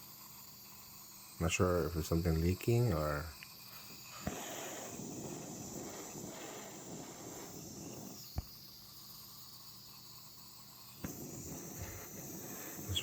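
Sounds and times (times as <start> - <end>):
butane hissing from soldering iron: 0.0 - 13.0.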